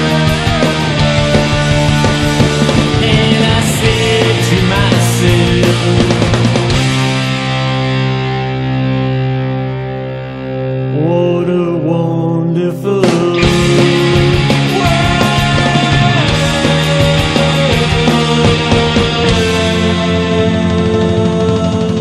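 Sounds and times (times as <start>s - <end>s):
rock band with drums: 0.0s - 11.0s, 12.8s - 22.0s
distorted electric guitar: 0.0s - 22.0s.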